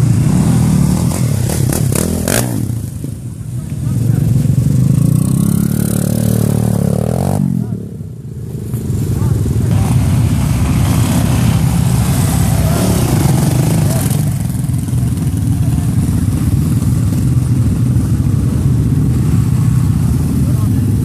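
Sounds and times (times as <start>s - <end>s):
dirt bike riding past: 0.0s - 8.0s, 8.7s - 21.0s
dirt bike engines running: 0.0s - 21.0s.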